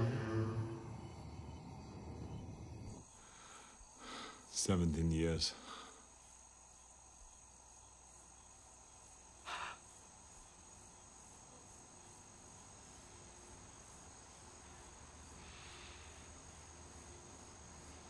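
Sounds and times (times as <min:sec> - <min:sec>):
crickets chirping: 0:00.0 - 0:18.0
faint rush of noise: 0:00.0 - 0:18.0.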